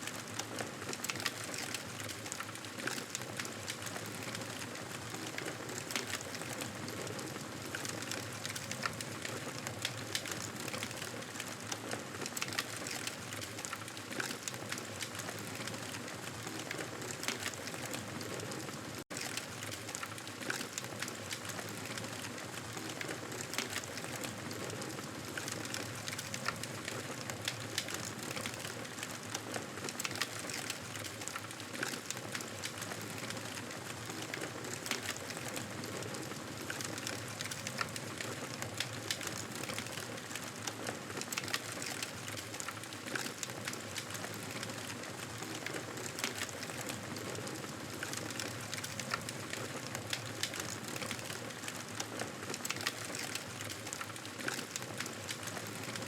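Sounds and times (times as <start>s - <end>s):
fire crackling: 0.2s - 56.0s.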